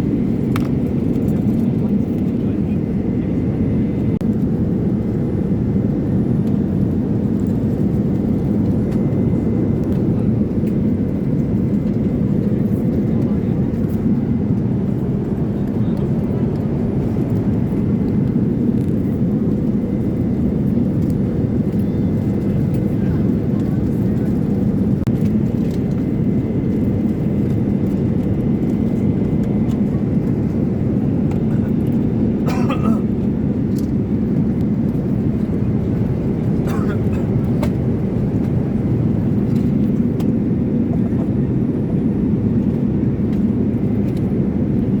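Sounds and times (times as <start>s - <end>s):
airliner cabin rumble: 0.0s - 45.0s.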